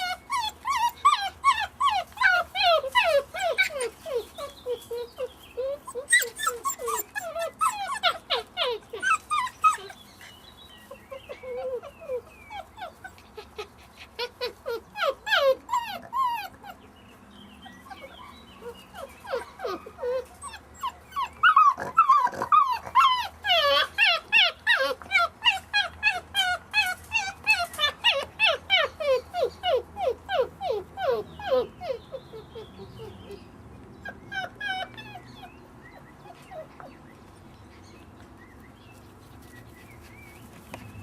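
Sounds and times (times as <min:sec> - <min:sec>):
puppies whimpering and squealing: 0:00.0 - 0:41.0.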